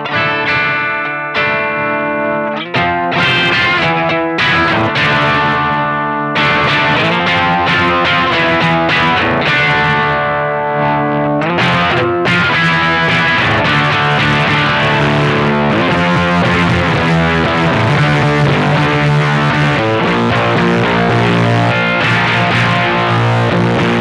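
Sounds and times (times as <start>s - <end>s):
fuzz electric guitar chords: 0.0s - 24.0s.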